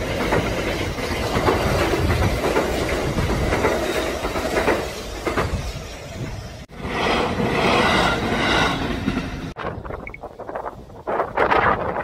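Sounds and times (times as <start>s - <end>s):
wheels clicking over rail joints: 0.0s - 10.4s
electric train rumbling: 0.0s - 12.0s.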